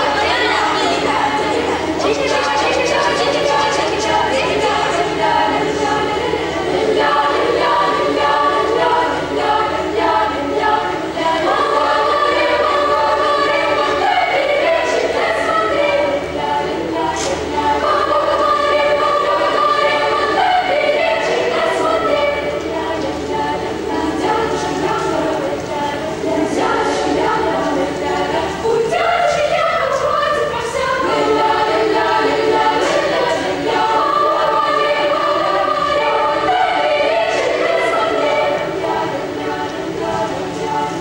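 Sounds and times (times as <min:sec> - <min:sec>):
girls' choir singing: 0:00.0 - 0:41.0.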